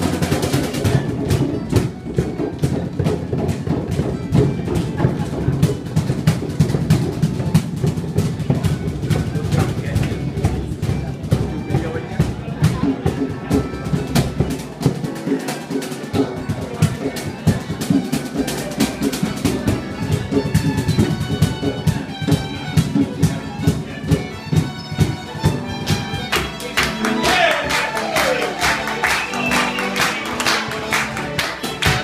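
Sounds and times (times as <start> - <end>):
fiddles playing melody: 0.0 - 32.0
rapid driving drumming: 0.0 - 32.0.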